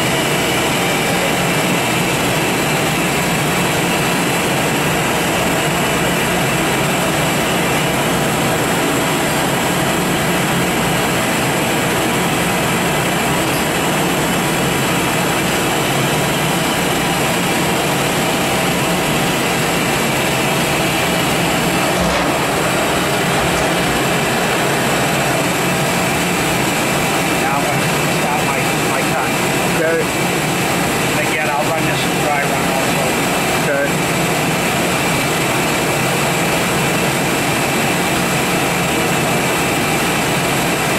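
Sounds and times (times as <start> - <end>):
lathe humming and hissing: 0.0 - 40.9.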